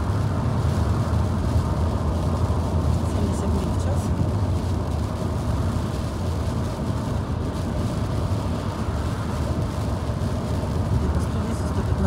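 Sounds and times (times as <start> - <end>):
car road noise on highway: 0.0 - 12.0.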